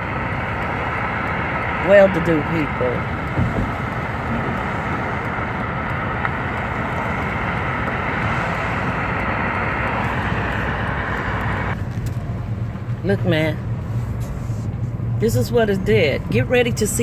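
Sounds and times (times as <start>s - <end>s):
car driving heard from inside: 0.0s - 17.0s.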